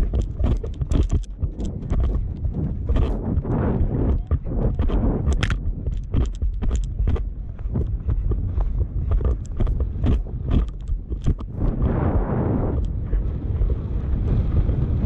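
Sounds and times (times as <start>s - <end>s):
hoofbeats on turf: 0.0s - 15.0s
wind rushing over microphone: 0.0s - 15.0s.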